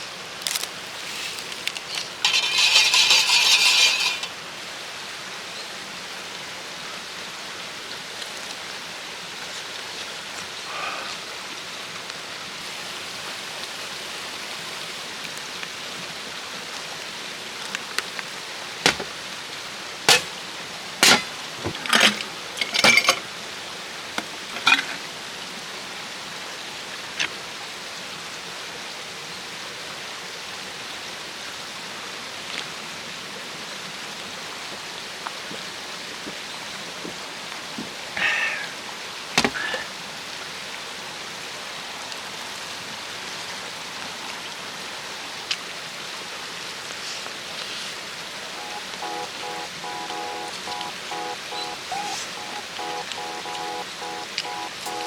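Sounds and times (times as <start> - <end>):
flowing water: 0.0 - 38.2, 38.8 - 55.0.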